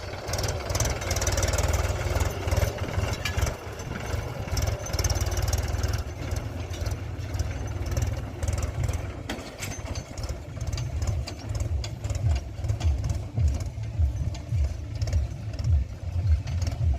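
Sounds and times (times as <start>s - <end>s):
diesel engine throbbing: 0.0s - 16.9s
rattling clicks: 0.0s - 16.9s.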